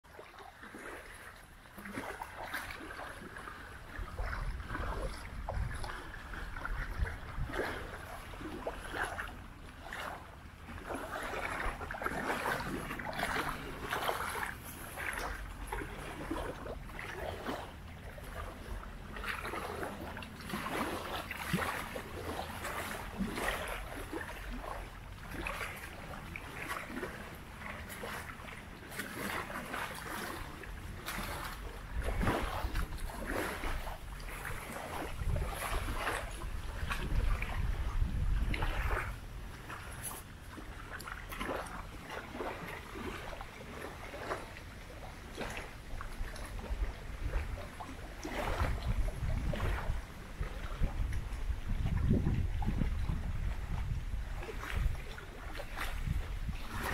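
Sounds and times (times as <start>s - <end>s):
small waves lapping on shore: 0.0s - 56.9s
wind rumbling on microphone: 2.0s - 56.9s.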